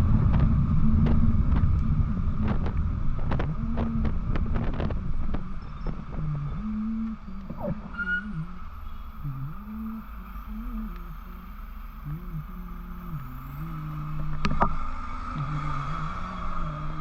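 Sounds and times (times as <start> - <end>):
motorcycle engine running: 0.0 - 14.6
wind and road noise: 0.0 - 17.0.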